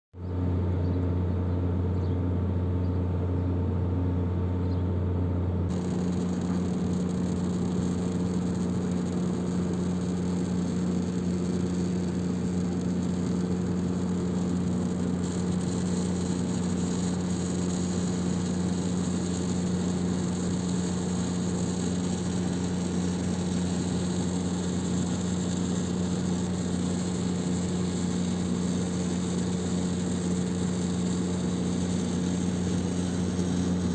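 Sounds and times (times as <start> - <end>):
steady electrical hum: 5.5 - 33.9
hissing corona discharge: 5.7 - 33.9.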